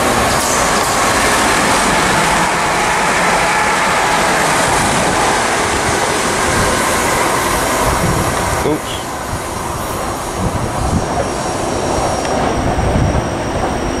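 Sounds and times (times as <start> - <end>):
train passing close by: 0.0 - 14.0.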